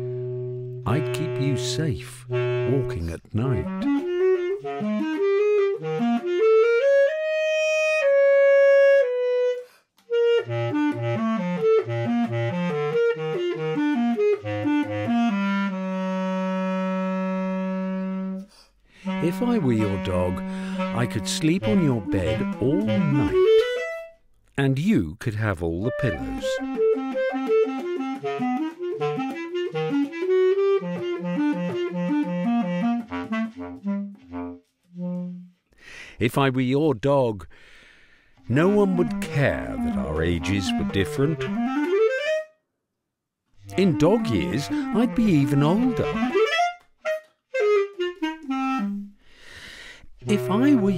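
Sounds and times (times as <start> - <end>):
basset horn playing solo: 0.0 - 24.1, 25.9 - 35.6, 38.4 - 42.5, 43.6 - 49.1, 50.2 - 50.9.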